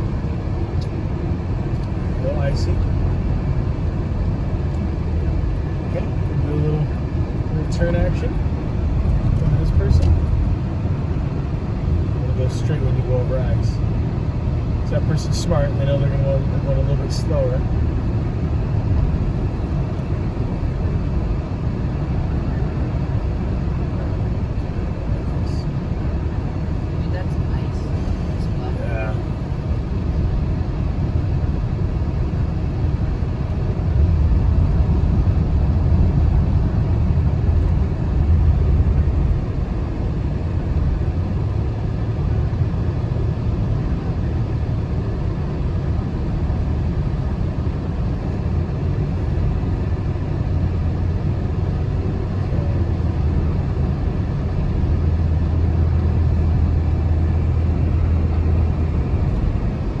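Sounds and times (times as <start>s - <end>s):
car engine and tyre rumble: 0.0s - 60.0s.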